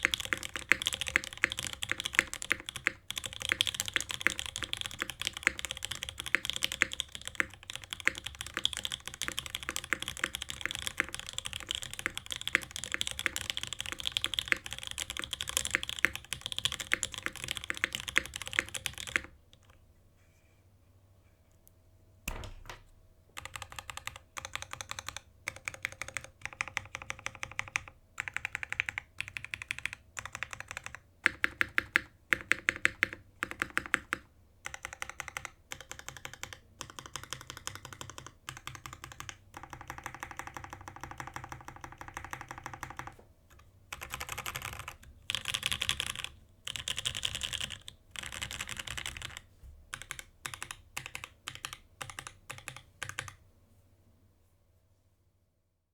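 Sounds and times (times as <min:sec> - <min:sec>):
mechanical keyboard typing: 0:00.0 - 0:19.8, 0:23.4 - 0:53.4.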